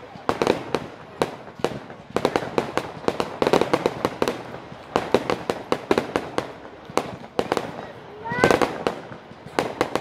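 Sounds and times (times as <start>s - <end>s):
crackling firework stars: 0.0s - 10.0s
firework bangs: 0.0s - 10.0s.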